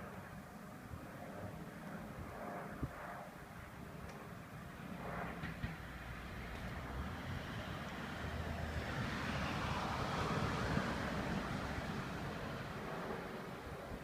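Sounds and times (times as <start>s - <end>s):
helicopter flying over: 0.0s - 14.0s.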